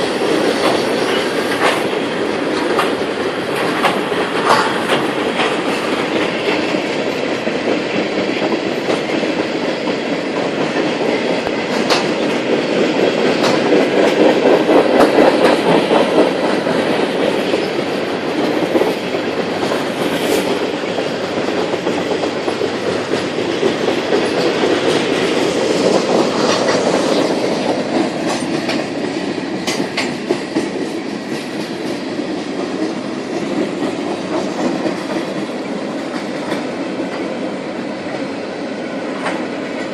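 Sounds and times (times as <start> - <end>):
freight train rolling past: 0.0 - 39.9
wheels clacking over rail joints: 0.0 - 39.9.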